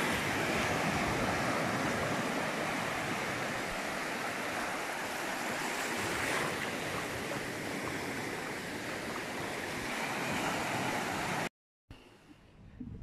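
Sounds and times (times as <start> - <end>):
small surf washing on shore: 0.0 - 11.5.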